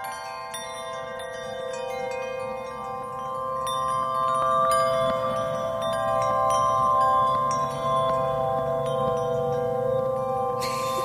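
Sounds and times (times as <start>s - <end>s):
bright bell tones ringing: 0.0s - 11.0s.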